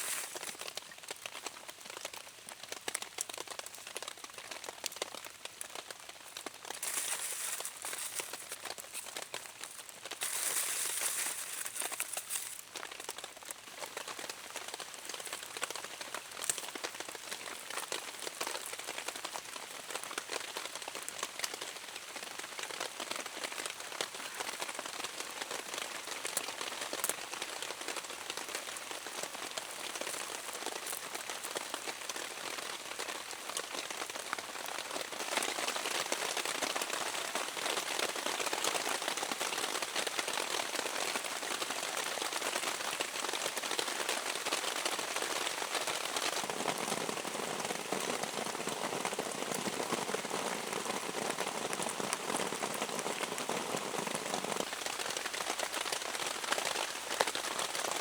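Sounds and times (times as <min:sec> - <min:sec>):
heavy rain on forest: 0:00.0 - 0:58.0.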